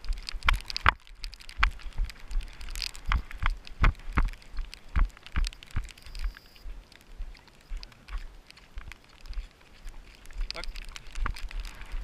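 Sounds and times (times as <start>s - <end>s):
footsteps on wooden boardwalk: 0.0s - 12.0s
light rain patter: 0.0s - 12.0s.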